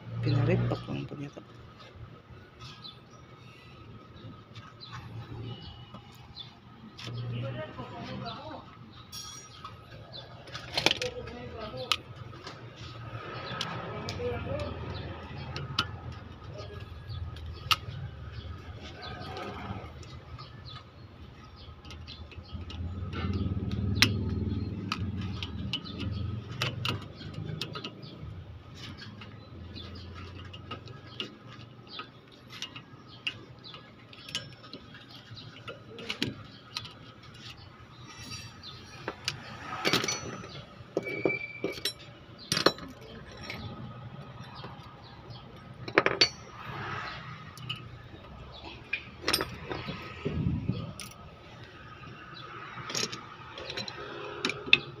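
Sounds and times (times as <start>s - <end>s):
metal tools clinking: 9.0s - 20.8s, 21.8s - 55.0s.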